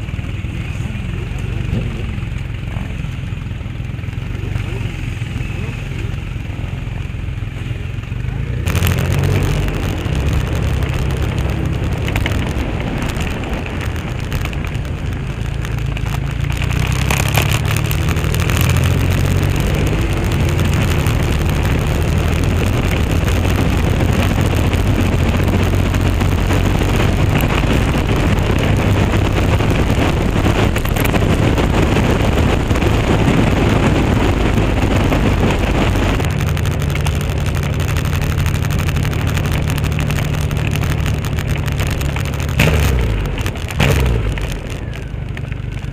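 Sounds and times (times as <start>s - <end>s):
motorcycle engine running: 0.0s - 45.9s
wind noise on microphone: 8.3s - 45.9s.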